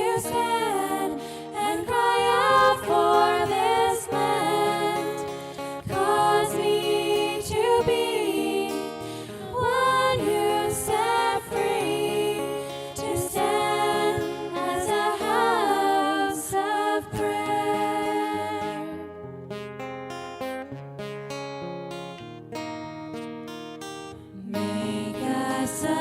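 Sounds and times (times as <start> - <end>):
person singing slow melody: 0.0 - 19.2, 24.3 - 26.0.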